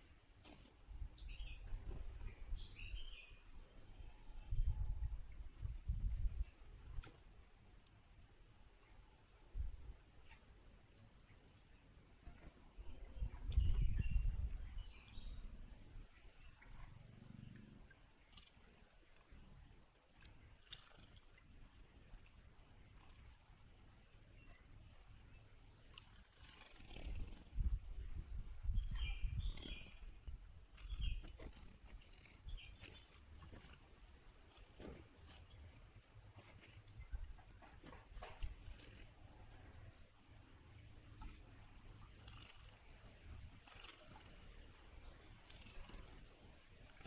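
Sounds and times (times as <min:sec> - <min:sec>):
small birds chirping: 0:00.0 - 0:47.0
high-pitched insect hum: 0:09.0 - 0:47.0.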